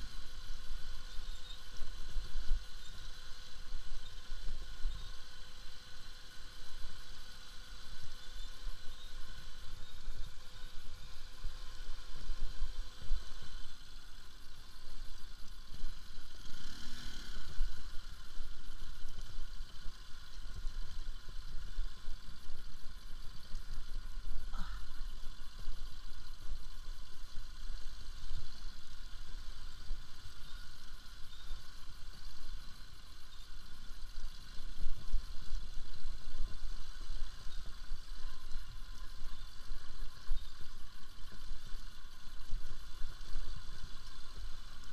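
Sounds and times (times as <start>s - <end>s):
motorcycle engine rumble: 0.0s - 44.9s.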